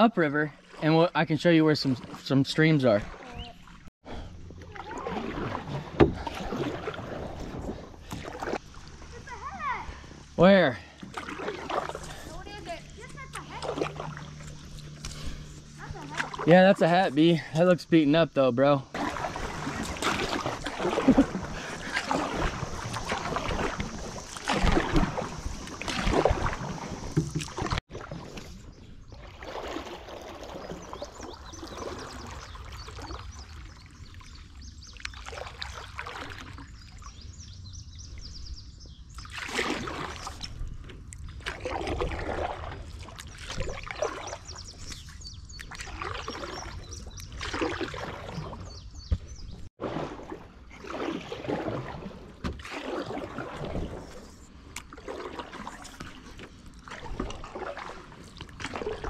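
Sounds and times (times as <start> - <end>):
paddles swishing through water: 0.0 - 59.0.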